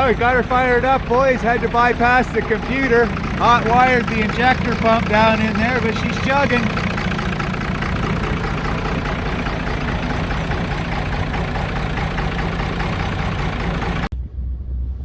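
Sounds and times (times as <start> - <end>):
diesel engine idling: 0.0 - 15.0
low hum: 0.0 - 15.0.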